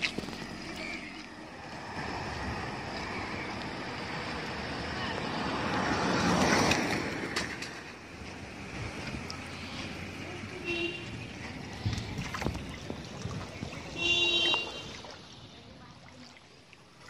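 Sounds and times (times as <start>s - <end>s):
car driving through floodwater: 0.0s - 17.0s.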